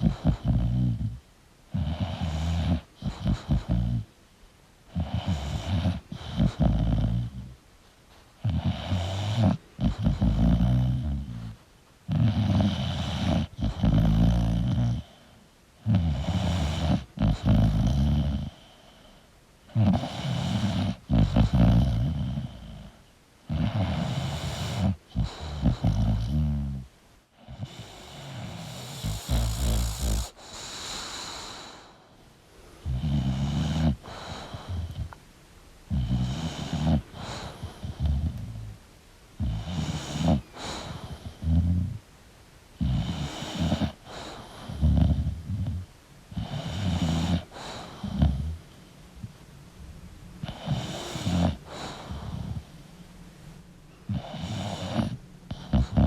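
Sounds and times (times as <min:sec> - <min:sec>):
dog snoring: 0:00.0 - 0:04.1, 0:04.9 - 0:07.6, 0:08.4 - 0:32.2, 0:32.8 - 0:35.2, 0:35.9 - 0:38.8, 0:39.4 - 0:42.0, 0:42.8 - 0:49.3, 0:50.4 - 0:52.8, 0:54.1 - 0:56.0.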